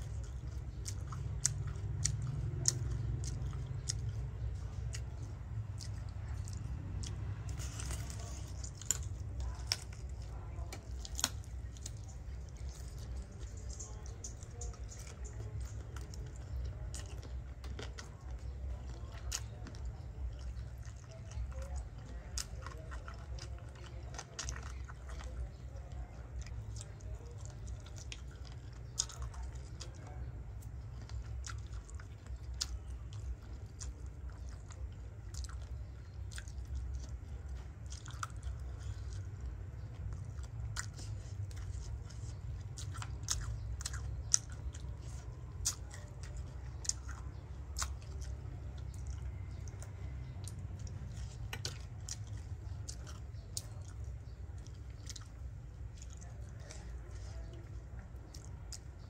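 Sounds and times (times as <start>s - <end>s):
steady low rumble: 0.0s - 59.0s
wet chewing with crunchy clicks: 0.0s - 59.0s.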